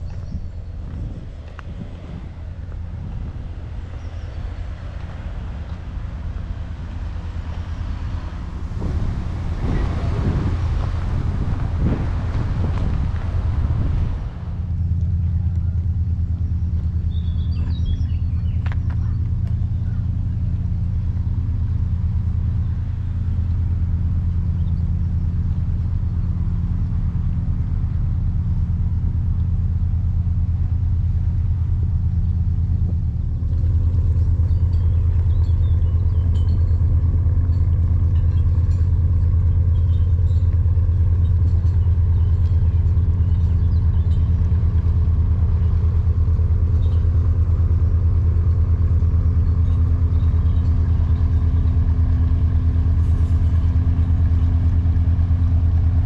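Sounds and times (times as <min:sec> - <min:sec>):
low humming drone: 0:00.0 - 0:56.0.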